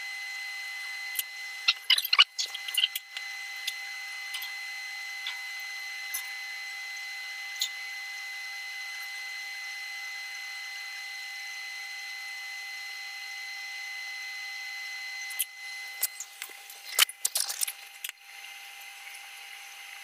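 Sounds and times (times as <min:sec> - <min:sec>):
arc welding hiss and whine: 0:00.0 - 0:20.0.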